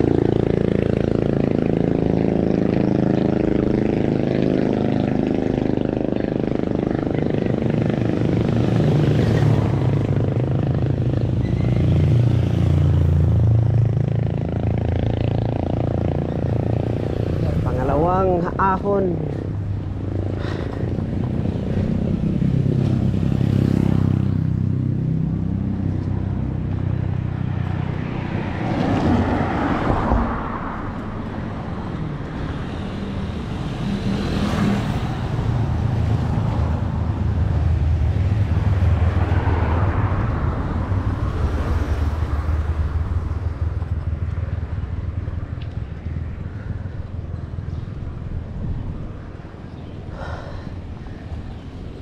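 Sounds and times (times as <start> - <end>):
bicycle road rumble: 0.0 - 52.0.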